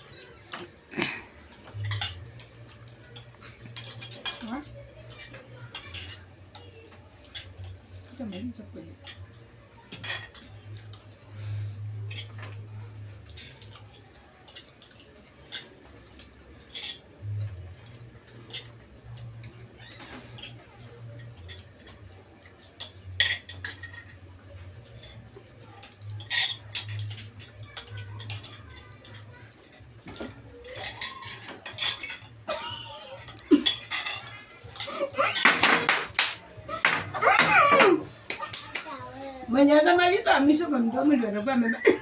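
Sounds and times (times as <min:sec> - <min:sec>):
cutlery clinking on plates: 0:00.0 - 0:11.3, 0:12.0 - 0:12.6, 0:13.2 - 0:38.9.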